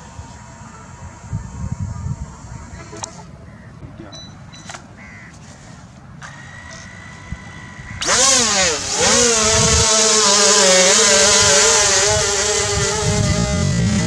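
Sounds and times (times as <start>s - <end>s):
electric motors high-pitched whine: 0.0s - 3.7s, 5.6s - 14.0s.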